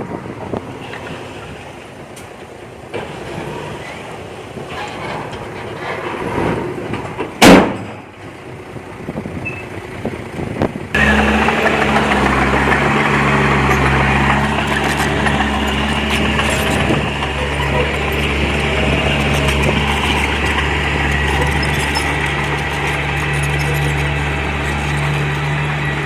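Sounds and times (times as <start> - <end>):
diesel engine of heavy machinery: 0.0 - 26.0.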